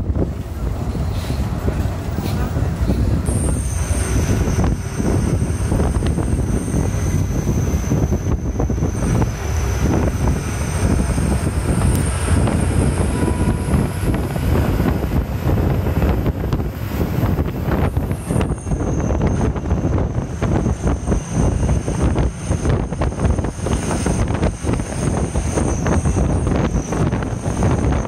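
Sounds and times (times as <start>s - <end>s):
bus diesel engine: 0.0s - 28.0s
road rumble: 0.0s - 28.0s
wind noise: 0.0s - 28.0s.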